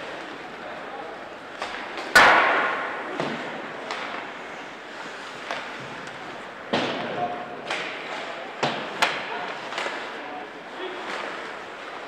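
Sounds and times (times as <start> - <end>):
background murmur: 0.0 - 12.0
hockey sticks and puck clacking: 1.5 - 12.0.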